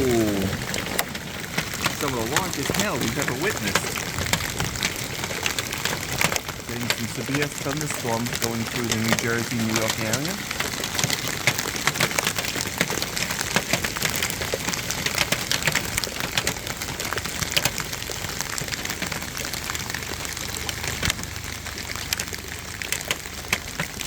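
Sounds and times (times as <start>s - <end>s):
hailstones pelting down: 0.0s - 24.0s
rain-like hiss: 0.0s - 24.0s.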